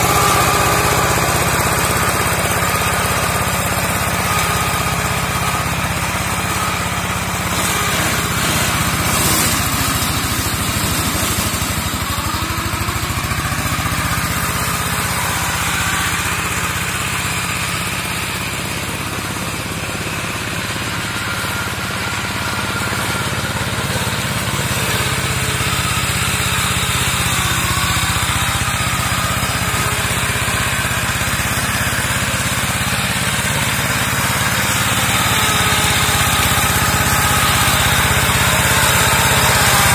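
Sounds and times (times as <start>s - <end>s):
mower engine running under load: 0.0s - 39.9s.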